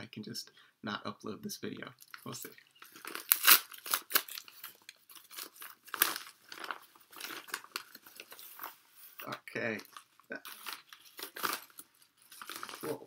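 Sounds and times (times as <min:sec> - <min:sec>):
paper envelope tearing and crinkling: 0:02.2 - 0:13.0.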